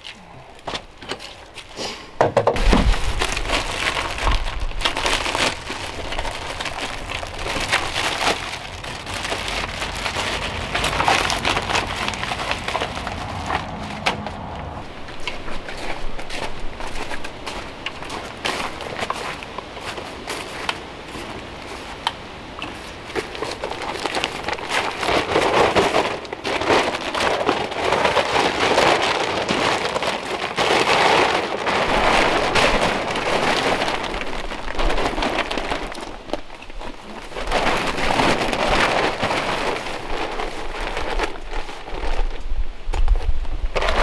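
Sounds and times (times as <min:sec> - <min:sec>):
plastic tarp crinkling and rustling: 0:00.0 - 0:44.0.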